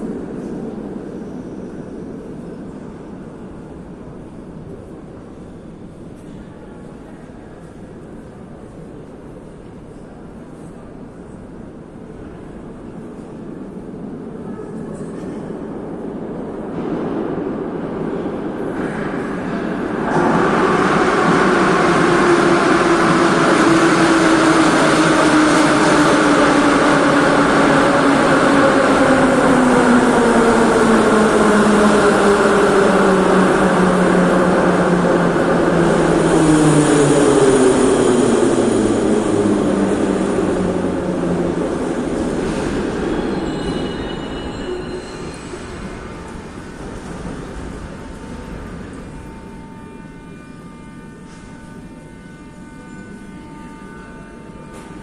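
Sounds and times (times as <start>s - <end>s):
train wheels on rails: 0.0s - 51.5s.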